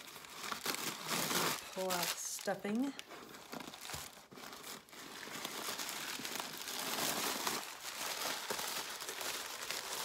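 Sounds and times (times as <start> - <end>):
paper crinkling and rustling: 0.0 - 10.0.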